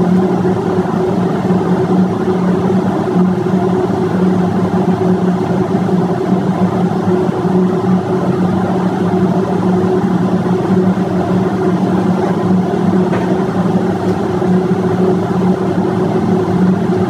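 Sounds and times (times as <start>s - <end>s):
diesel engines droning: 0.0s - 17.0s.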